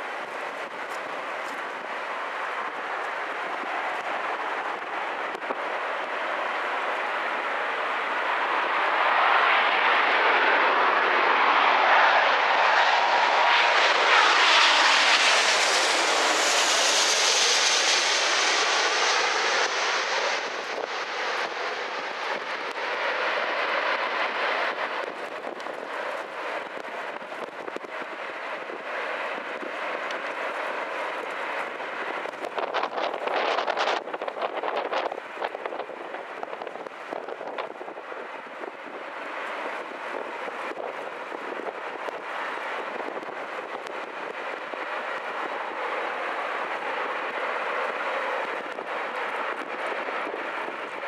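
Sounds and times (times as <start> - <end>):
jet airliner passing overhead: 0.0 - 51.0.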